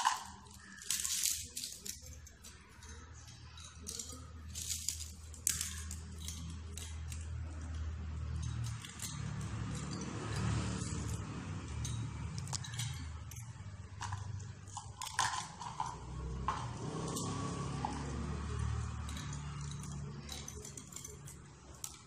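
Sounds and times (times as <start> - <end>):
light clinks: 0.0 - 22.0.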